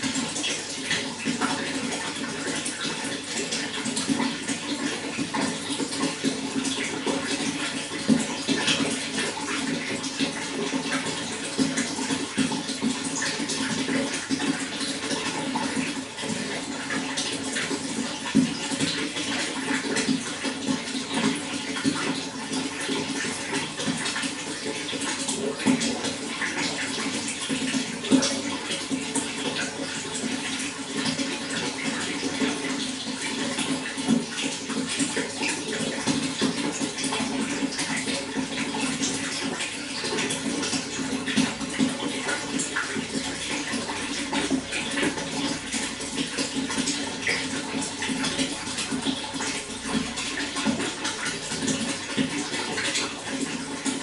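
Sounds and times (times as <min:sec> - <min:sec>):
running water splashing: 0:00.0 - 0:54.0.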